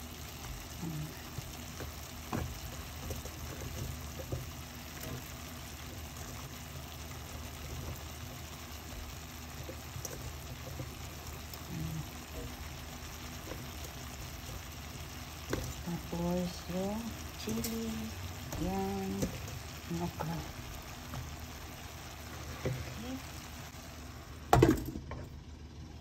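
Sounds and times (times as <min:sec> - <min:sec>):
pot simmering and bubbling: 0:00.0 - 0:26.0.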